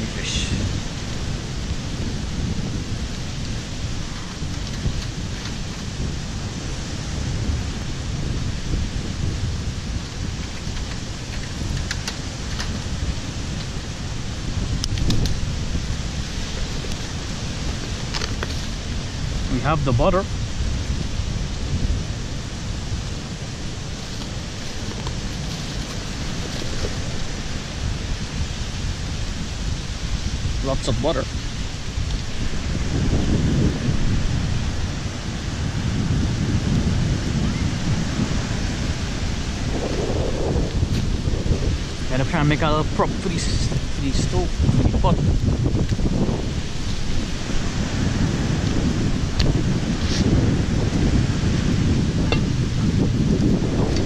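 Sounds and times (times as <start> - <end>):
low rumble: 0.0 - 54.0
surf: 0.0 - 54.0
wind: 0.0 - 54.0.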